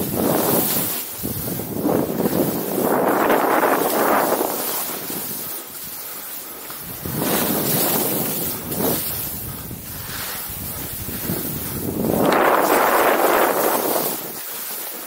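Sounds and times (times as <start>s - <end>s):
skis hissing over snow: 0.0s - 15.0s
wind buffeting microphone: 0.0s - 15.0s.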